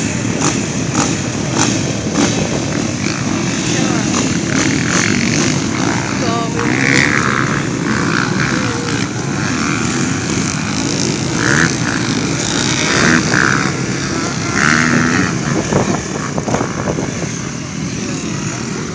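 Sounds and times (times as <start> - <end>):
motocross bike engines revving: 0.0 - 18.9.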